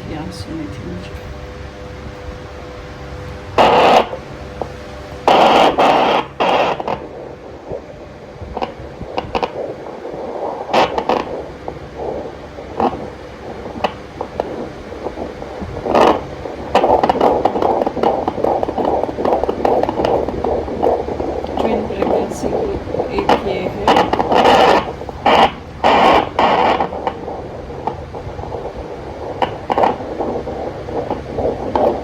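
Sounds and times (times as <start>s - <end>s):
scraping and crackling noise: 3.2s - 32.0s.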